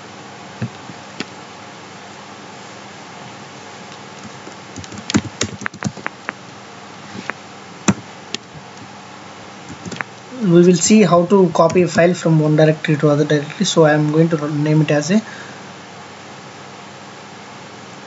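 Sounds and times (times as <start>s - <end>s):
microphone hiss: 0.0s - 18.0s.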